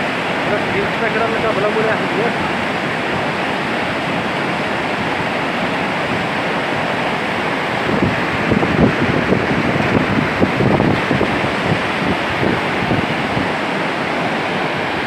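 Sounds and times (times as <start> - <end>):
fast-flowing water rushing: 0.0 - 15.0
wind buffeting microphone: 0.0 - 15.0.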